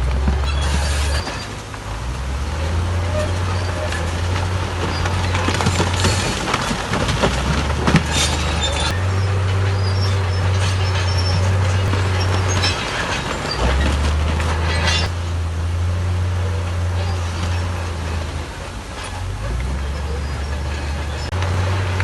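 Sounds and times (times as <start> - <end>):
diesel earthmoving machine running: 0.0 - 22.0
rock and metal clattering: 0.0 - 22.0.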